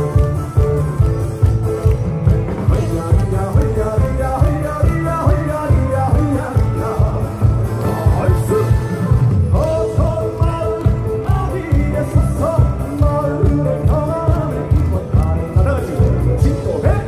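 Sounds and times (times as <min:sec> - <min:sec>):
band backing track with heavy beat: 0:00.0 - 0:17.0
man singing through microphone: 0:02.7 - 0:17.0.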